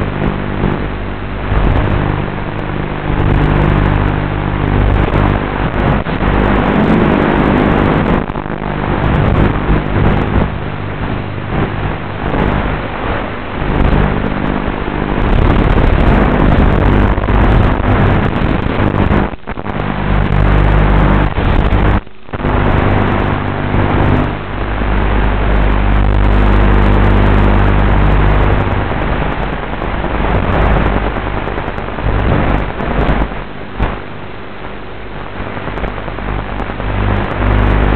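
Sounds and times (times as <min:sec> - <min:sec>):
wind noise: 0:00.0 - 0:37.9.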